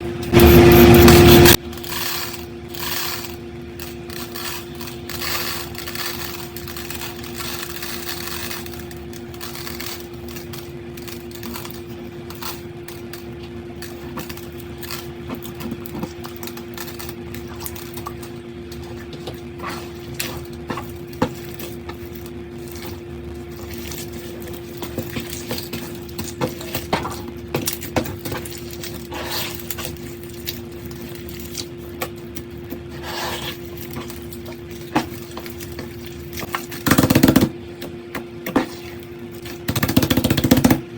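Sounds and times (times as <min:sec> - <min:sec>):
crunchy crackling: 0:00.4 - 0:40.2.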